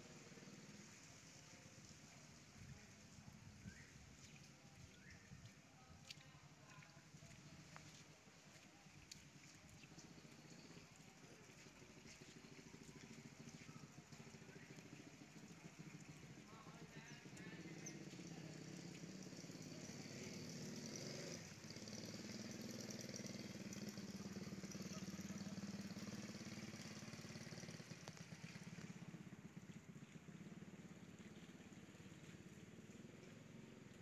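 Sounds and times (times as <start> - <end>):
faint motorcycle engine passing: 0.0 - 34.0.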